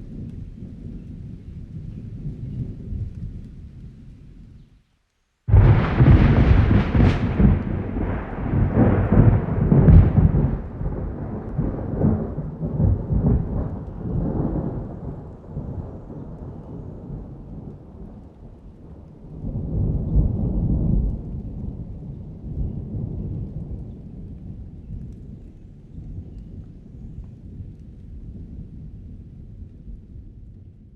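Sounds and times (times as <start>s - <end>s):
thunderclap and rumble: 0.0s - 4.6s, 5.5s - 30.9s
rain falling: 0.0s - 30.9s.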